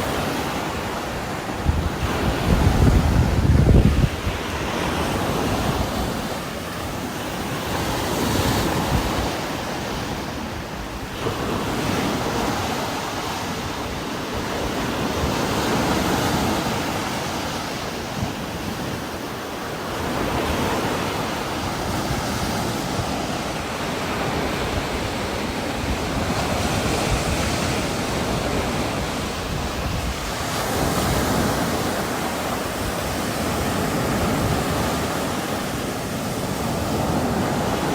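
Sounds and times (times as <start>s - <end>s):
strong wind through trees: 0.0s - 37.9s.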